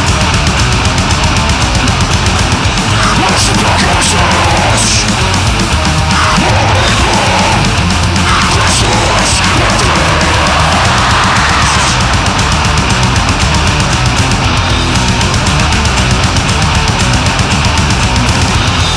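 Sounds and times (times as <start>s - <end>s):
distorted guitars: 0.0s - 18.9s
very fast drumming: 0.0s - 18.9s.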